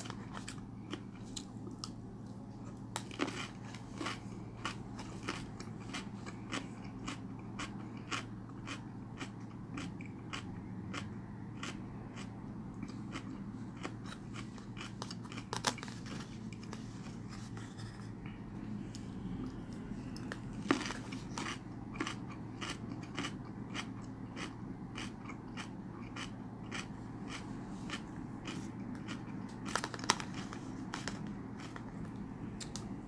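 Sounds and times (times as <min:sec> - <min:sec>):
wet crunchy chewing: 0:00.0 - 0:32.8.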